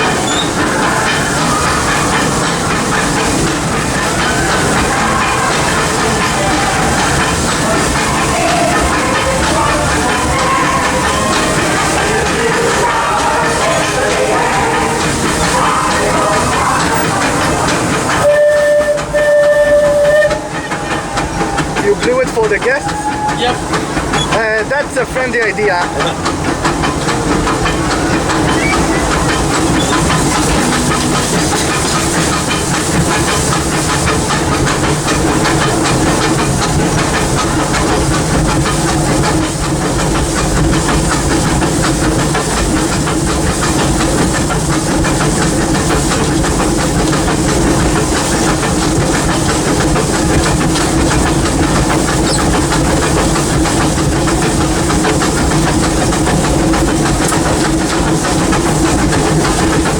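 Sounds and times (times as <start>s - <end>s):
steam hissing: 0.0s - 59.9s
steam locomotive rumble and clatter: 0.0s - 59.9s.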